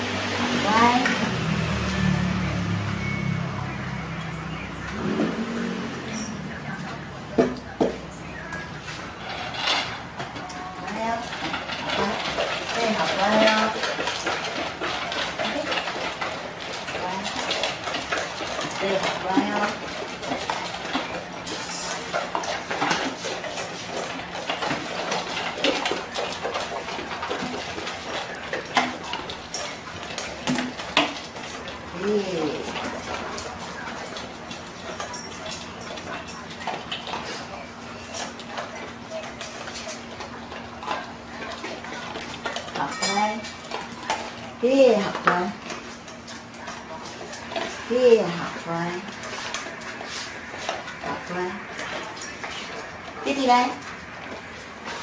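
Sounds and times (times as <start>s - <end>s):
metal dog bowls clinking: 2.6s - 55.0s.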